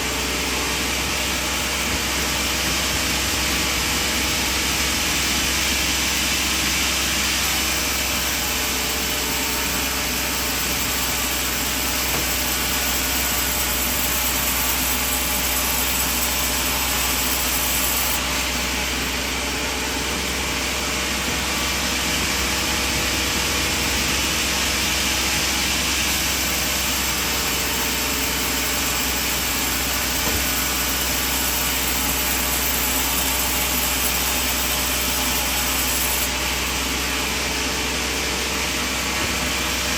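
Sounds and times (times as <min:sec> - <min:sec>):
sawmill machine drone: 0:00.0 - 0:39.9.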